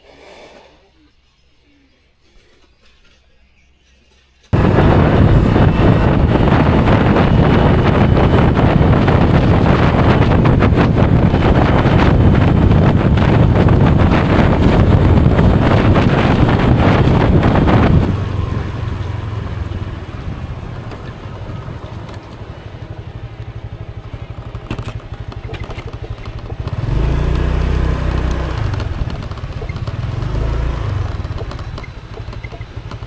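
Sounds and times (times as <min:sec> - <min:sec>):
motorbike running: 0:04.6 - 0:33.0
wind buffeting microphone: 0:04.6 - 0:33.0.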